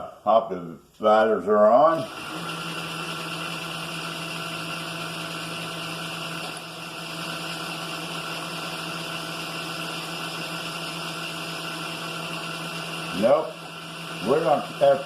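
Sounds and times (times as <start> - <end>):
milling machine motor hum: 2.0 - 15.0.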